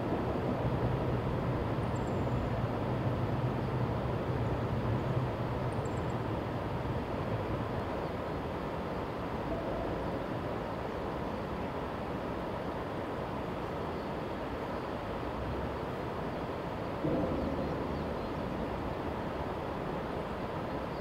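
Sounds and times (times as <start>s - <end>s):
distant freight train rumble: 0.0s - 11.0s, 15.0s - 21.0s.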